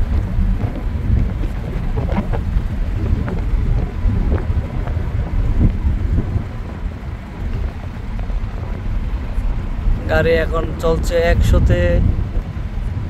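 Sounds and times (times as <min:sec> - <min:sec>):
tyre and wind rumble in car: 0:00.0 - 0:13.0.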